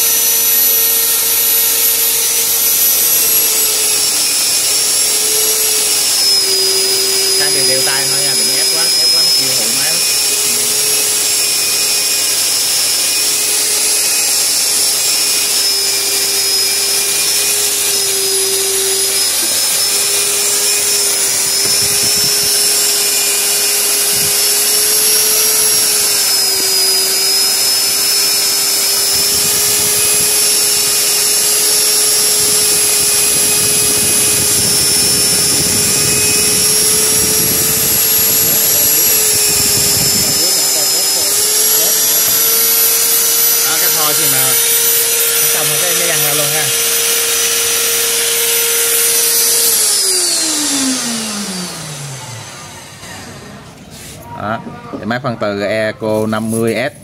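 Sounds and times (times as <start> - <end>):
magnetic drill motor whining: 0.0 - 57.0.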